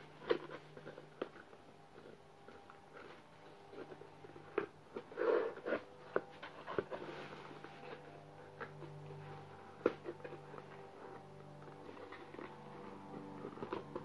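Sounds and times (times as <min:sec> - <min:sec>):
taps and scrapes on a box: 0:00.0 - 0:14.0.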